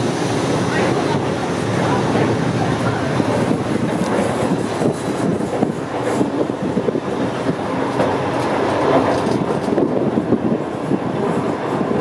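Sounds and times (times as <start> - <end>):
railway car clattering: 0.0 - 12.0
wheels running on rails: 0.0 - 12.0.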